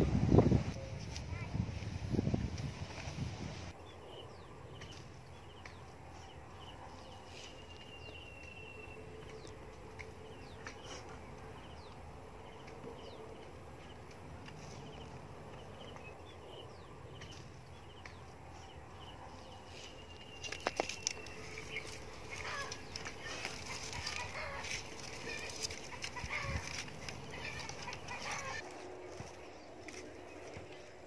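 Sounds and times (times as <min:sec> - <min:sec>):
birds chirping: 0:03.8 - 0:31.0.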